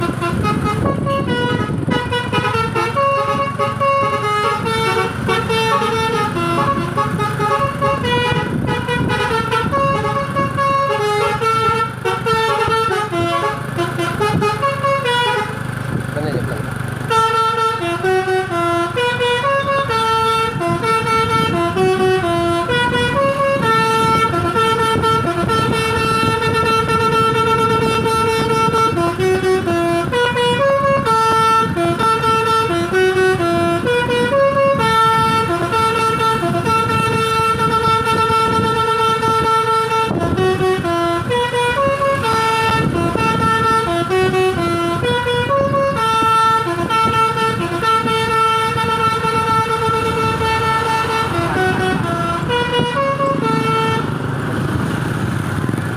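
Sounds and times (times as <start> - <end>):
musical truck horn melody: 0.0 - 16.0, 16.9 - 54.8
truck engine rumbling: 0.0 - 55.9.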